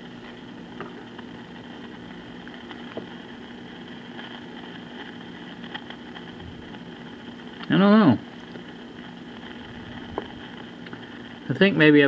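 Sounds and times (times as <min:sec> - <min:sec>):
low amplifier hum and hiss: 0:00.0 - 0:12.0.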